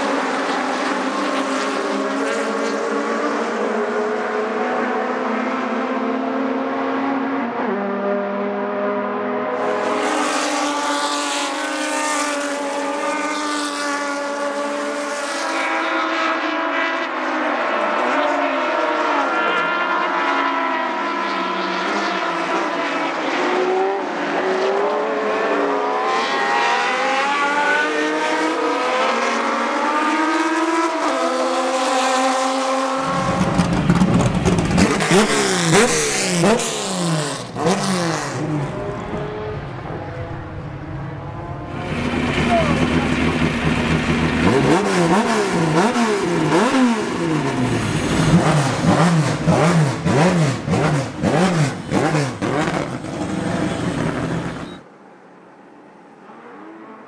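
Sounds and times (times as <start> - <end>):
racing car engines at full throttle: 0.0 - 54.9.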